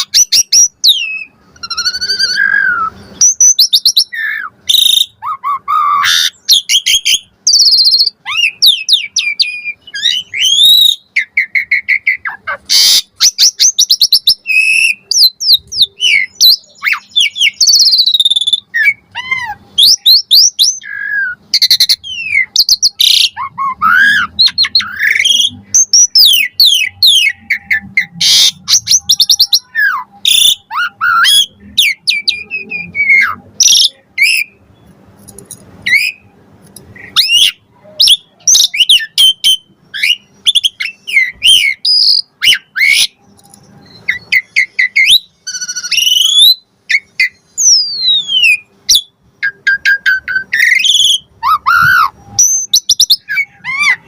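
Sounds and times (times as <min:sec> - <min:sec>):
starling singing: 0:00.0 - 0:54.0.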